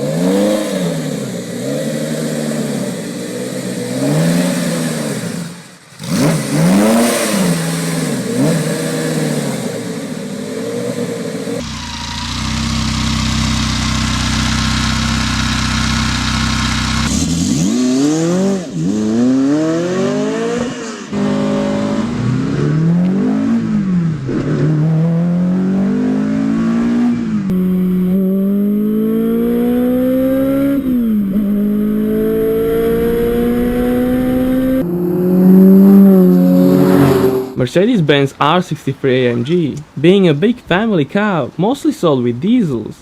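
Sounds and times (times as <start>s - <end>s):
car engine revving hard: 0.0s - 37.6s.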